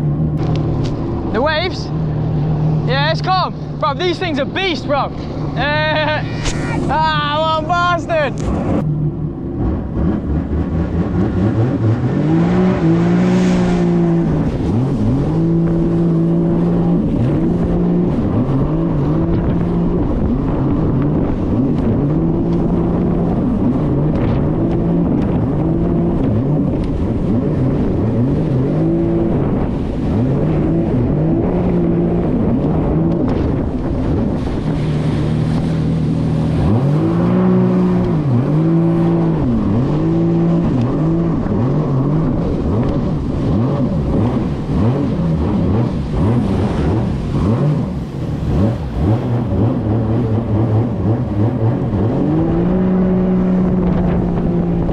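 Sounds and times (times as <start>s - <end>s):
jet ski engine running hard: 0.0s - 54.9s
rush of wind and water: 0.0s - 54.9s.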